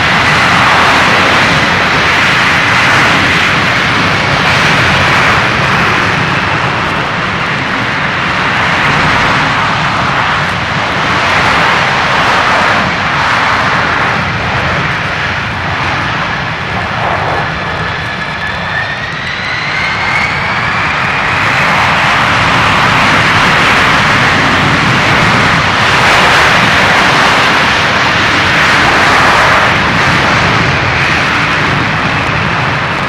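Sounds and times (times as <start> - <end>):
aircraft engine roar: 0.0 - 33.0.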